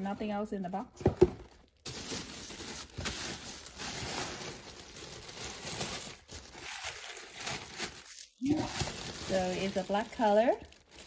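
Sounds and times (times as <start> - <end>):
tissue paper rustling: 1.8 - 11.0.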